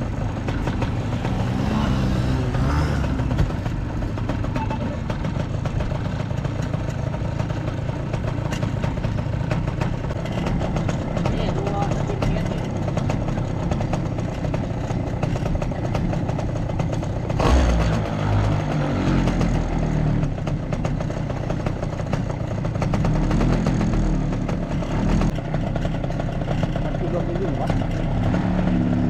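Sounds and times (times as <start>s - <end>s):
small petrol engine running: 0.0s - 29.0s.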